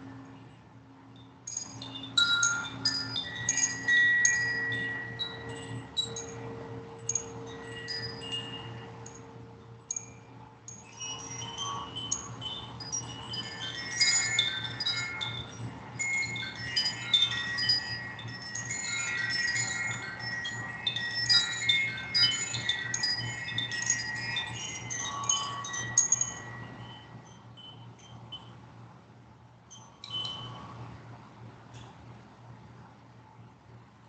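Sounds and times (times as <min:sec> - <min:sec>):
faint low hum: 0:00.0 - 0:34.0
wind chimes tinkling: 0:01.1 - 0:28.8, 0:29.5 - 0:31.1.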